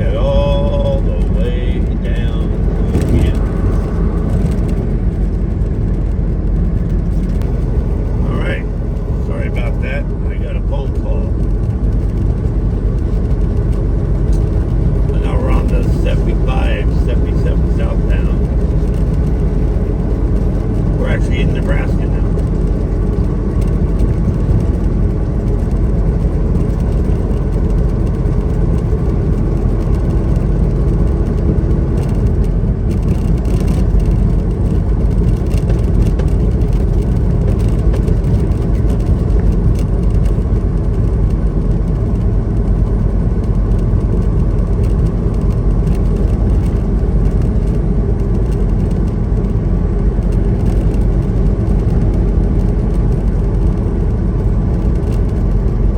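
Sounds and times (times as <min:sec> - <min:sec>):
truck engine and road drone: 0:00.0 - 0:55.9.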